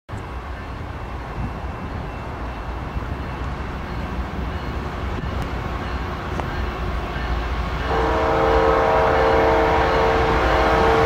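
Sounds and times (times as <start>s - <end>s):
distant freight train rumble: 0.1s - 11.0s.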